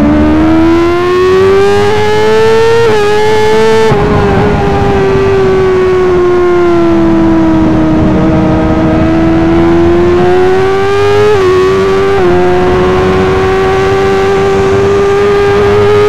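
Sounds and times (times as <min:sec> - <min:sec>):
motorcycle engine at high revs: 0:00.0 - 0:16.0
wind and road noise: 0:00.0 - 0:16.0.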